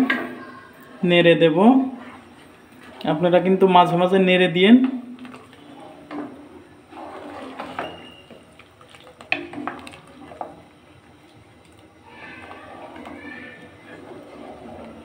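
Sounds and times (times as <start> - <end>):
spoon stirring pudding in pot: 1.8 - 15.0
liquid sloshing: 2.0 - 15.0.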